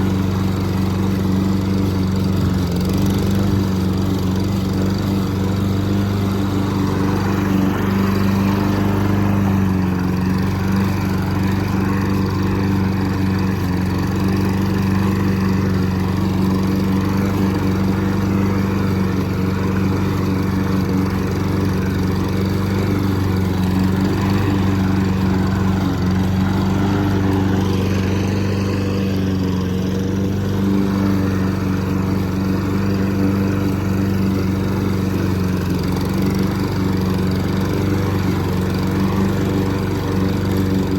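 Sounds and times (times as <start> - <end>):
lawn mower engine cutting grass: 0.0 - 40.9.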